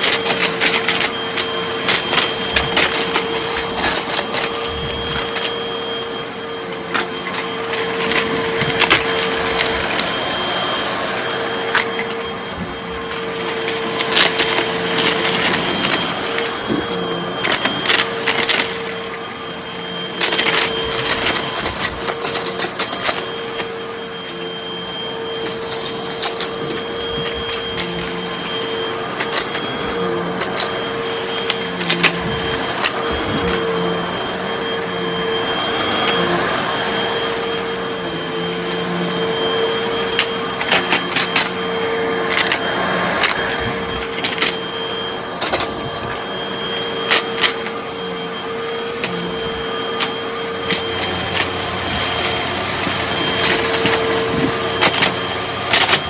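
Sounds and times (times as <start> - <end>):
debris rattling up nozzle: 0.0 - 34.6, 38.5 - 56.0
vacuum cleaner humming: 0.0 - 56.0.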